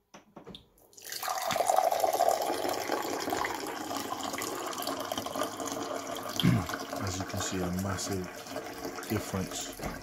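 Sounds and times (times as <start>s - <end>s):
water pouring into a glass: 0.9s - 10.0s.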